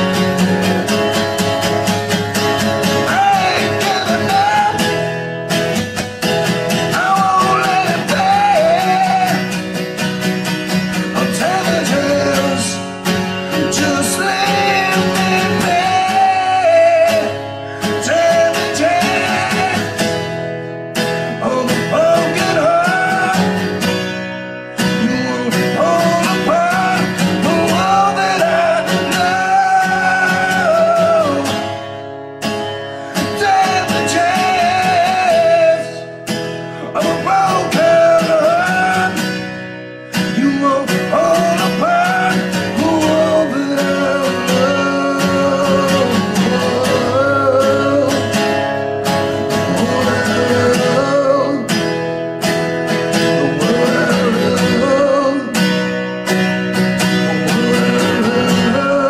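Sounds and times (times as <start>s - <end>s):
strummed acoustic guitar: 0.0s - 59.0s
man singing: 1.6s - 10.1s, 10.9s - 31.9s, 32.9s - 51.9s, 52.9s - 59.0s.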